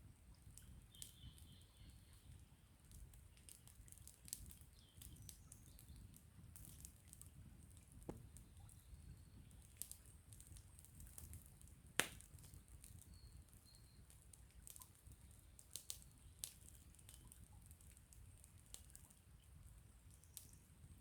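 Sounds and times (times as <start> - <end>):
campfire crackling and popping: 0.1 - 21.0.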